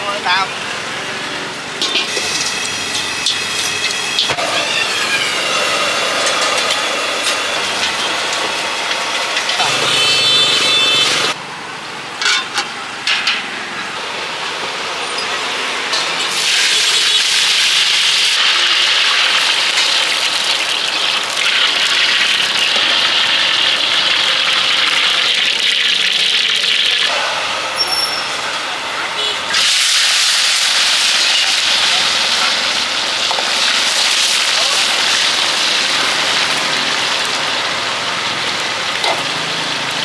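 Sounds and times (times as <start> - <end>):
food sizzling in a wok: 0.6 - 11.4, 14.0 - 40.0.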